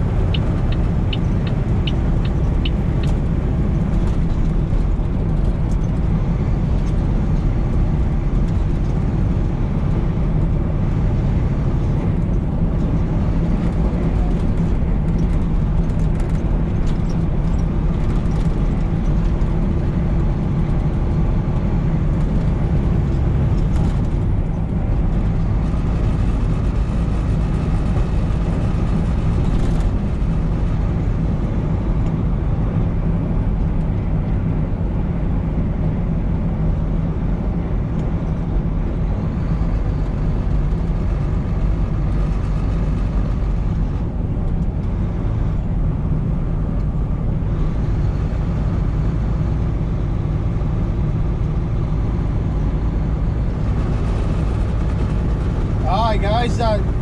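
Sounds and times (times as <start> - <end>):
road and tyre noise: 0.0 - 57.0
truck engine drone: 0.0 - 57.0.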